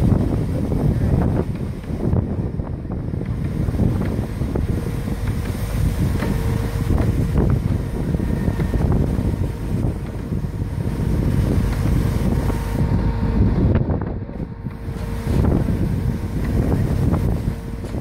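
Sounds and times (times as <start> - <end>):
crane motor hum: 0.0 - 18.0
wind buffeting microphone: 0.0 - 18.0.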